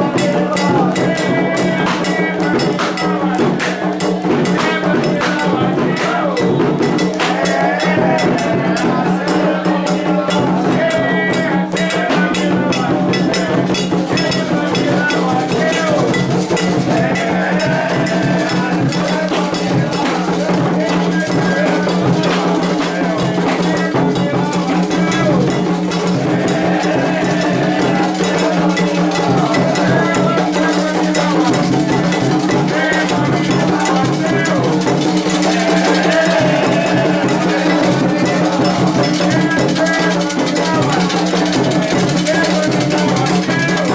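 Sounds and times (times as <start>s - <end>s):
hand drums: 0.0s - 43.9s
voices singing: 0.0s - 43.9s.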